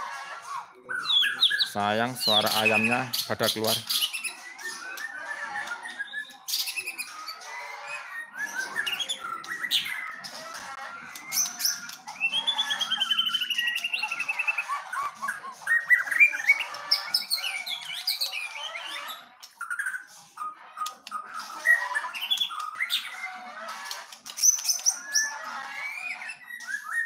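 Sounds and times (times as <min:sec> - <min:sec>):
birds singing whistles and trills: 0:00.7 - 0:27.0.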